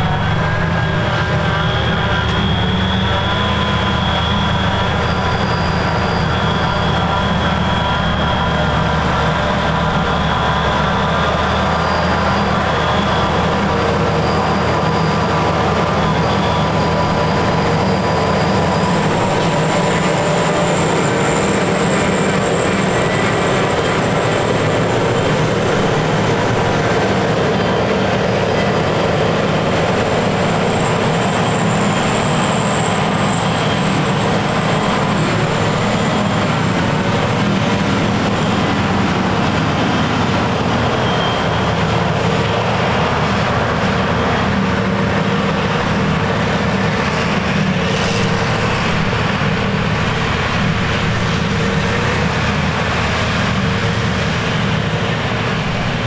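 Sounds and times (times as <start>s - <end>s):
heavy harvester machine drone: 0.0s - 56.0s
high whine: 0.0s - 56.0s.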